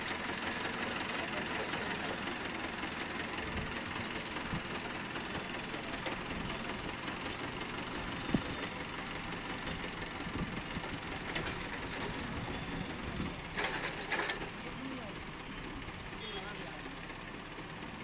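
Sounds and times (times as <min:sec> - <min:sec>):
forklift engine running: 0:00.0 - 0:18.0.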